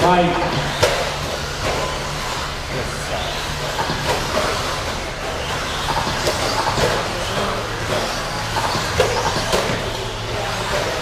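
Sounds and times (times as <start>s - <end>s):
rc truck motors whining: 0.0s - 11.0s.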